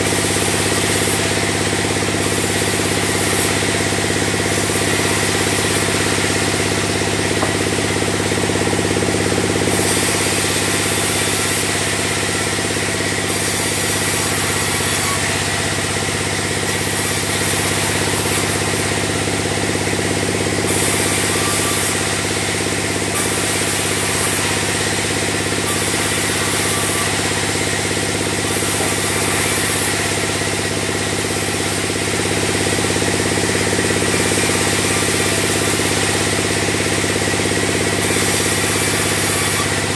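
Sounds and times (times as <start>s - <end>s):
band saw humming and hissing: 0.0s - 39.9s.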